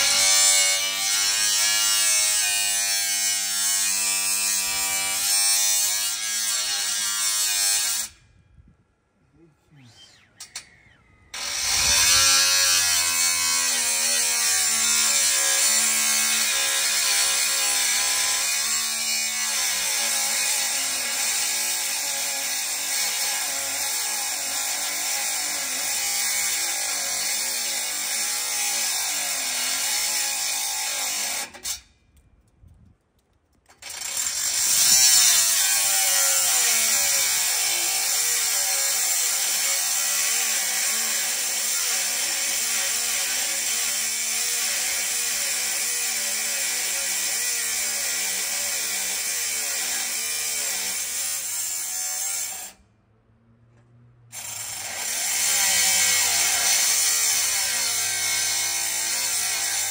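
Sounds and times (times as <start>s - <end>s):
power saw cutting steel pipe: 0.0s - 8.2s, 9.8s - 31.9s, 33.7s - 52.8s, 54.3s - 59.9s.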